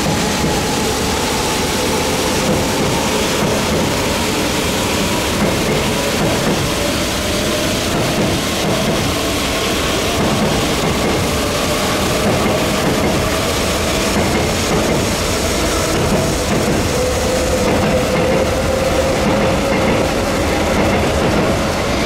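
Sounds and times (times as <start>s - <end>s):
high-speed train rushing past: 0.0s - 22.0s.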